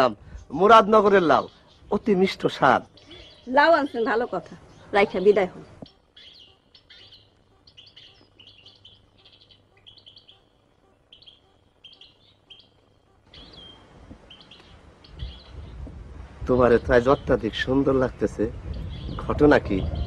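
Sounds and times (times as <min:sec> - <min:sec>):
soft hiss: 0:00.0 - 0:19.6
small birds chirping: 0:00.0 - 0:20.0.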